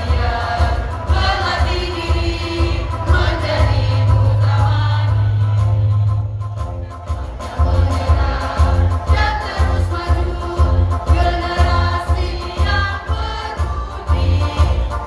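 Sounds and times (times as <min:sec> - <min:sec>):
mixed choir singing: 0:00.0 - 0:06.3, 0:07.0 - 0:15.0
steady bass beat: 0:00.0 - 0:15.0.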